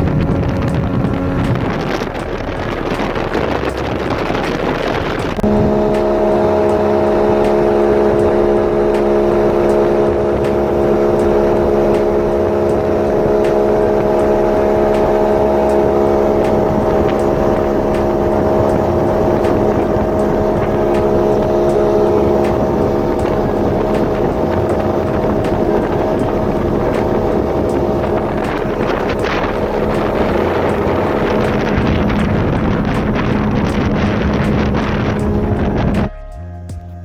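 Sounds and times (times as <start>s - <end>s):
boat engine droning: 0.0s - 37.0s
wind noise on microphone: 0.0s - 37.0s.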